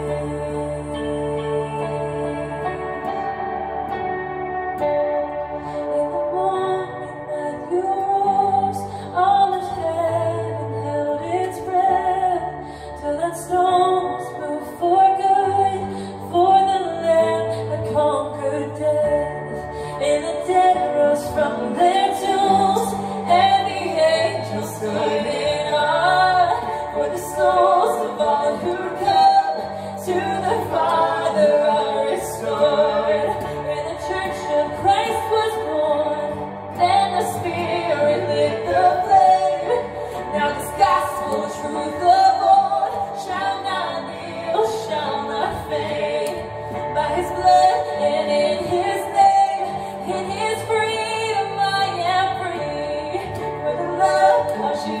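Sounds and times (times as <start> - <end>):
instrumental backing with bass: 0.0 - 55.0
woman singing worship music: 0.0 - 55.0.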